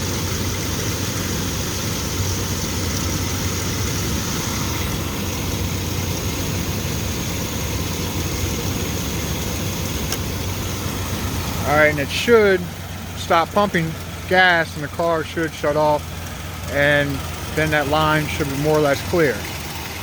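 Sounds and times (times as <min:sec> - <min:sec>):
car engine idling with misfire: 0:00.0 - 0:20.0.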